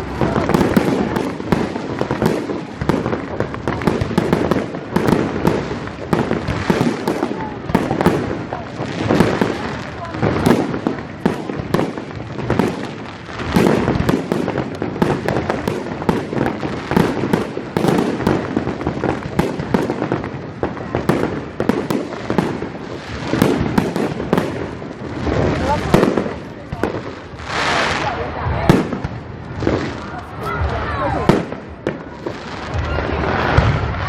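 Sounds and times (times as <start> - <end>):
crowd voices: 0.0 - 34.0
fireworks bangs and crackles: 0.0 - 34.0.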